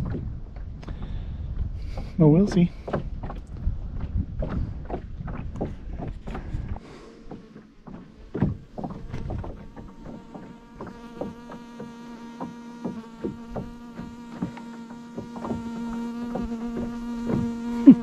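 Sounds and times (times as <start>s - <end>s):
boat motor humming: 0.0s - 18.0s
light knocks from boat: 2.0s - 17.6s.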